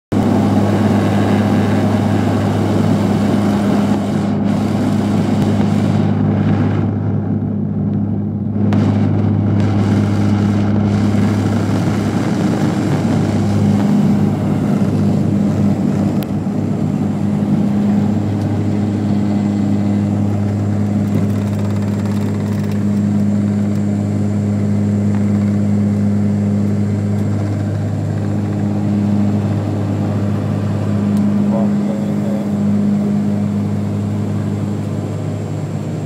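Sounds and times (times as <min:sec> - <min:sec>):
engine rumble: 0:00.1 - 0:36.0
propeller drone: 0:00.1 - 0:36.0.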